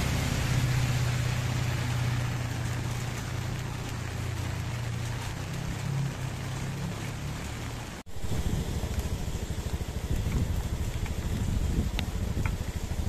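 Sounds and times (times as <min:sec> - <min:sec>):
motorcycle engine running: 0:00.0 - 0:13.0
rain hissing on wet road: 0:00.0 - 0:13.0.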